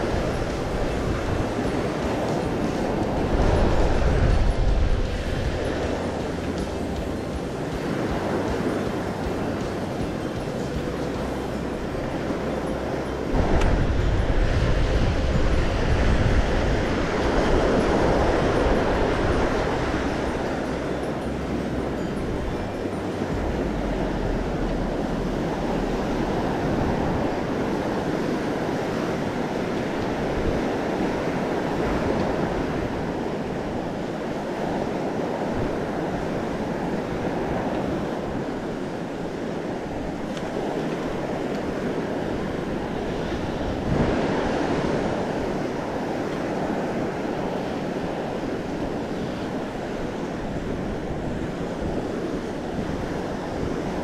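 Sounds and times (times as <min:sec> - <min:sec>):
ocean surf breaking: 0:00.0 - 0:54.0
wind on microphone: 0:00.0 - 0:54.0.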